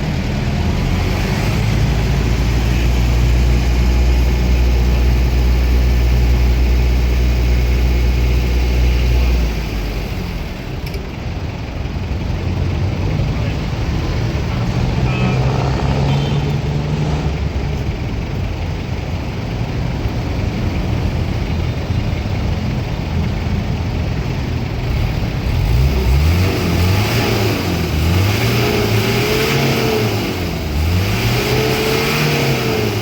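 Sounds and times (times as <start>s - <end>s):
diesel engine idling and revving: 0.0s - 33.0s.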